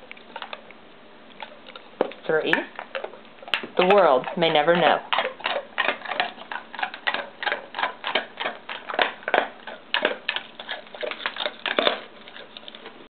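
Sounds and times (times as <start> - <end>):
dog crunching hard candy: 0.0 - 13.0.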